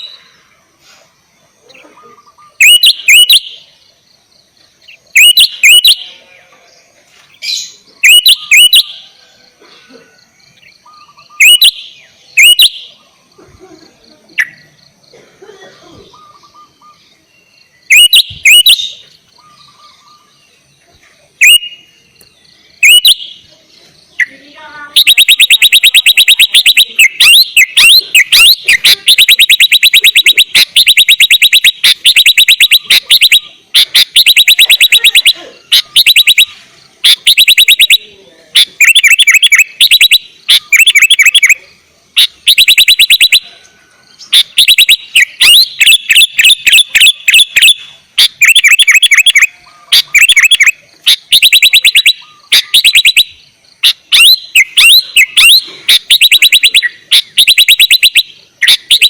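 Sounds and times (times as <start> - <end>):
bird singing chattering trills: 0.0 - 15.2, 15.8 - 59.0.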